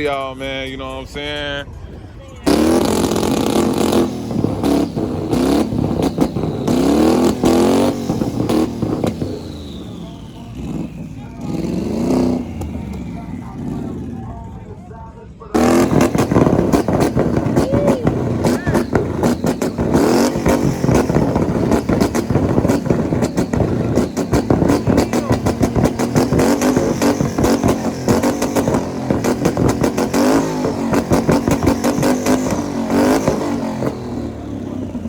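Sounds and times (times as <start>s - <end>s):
engines revving: 0.0s - 35.0s
exhaust crackling pops: 2.5s - 13.9s, 15.6s - 35.0s.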